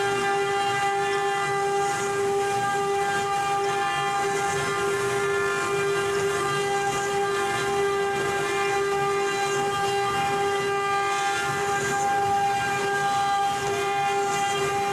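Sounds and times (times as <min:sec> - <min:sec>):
router spindle whining: 0:00.0 - 0:14.9.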